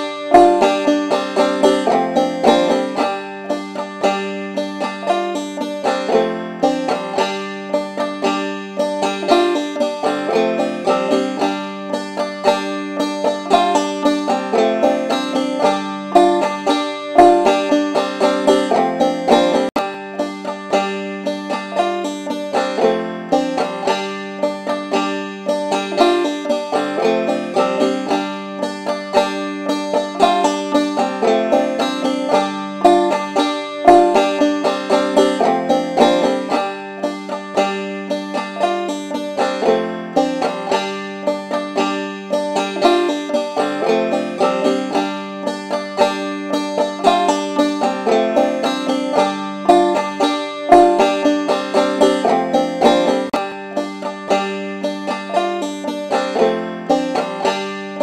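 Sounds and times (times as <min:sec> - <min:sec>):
banjo picking: 0:00.0 - 0:58.0.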